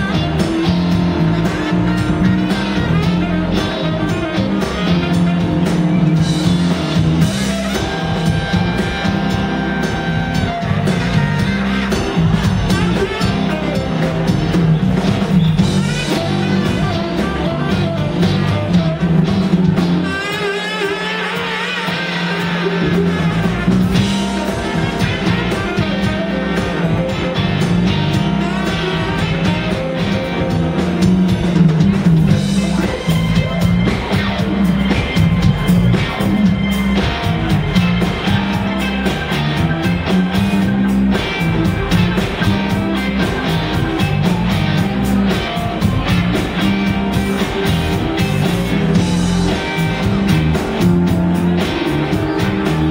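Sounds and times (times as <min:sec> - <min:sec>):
live blues-rock band: 0:00.0 - 0:52.9.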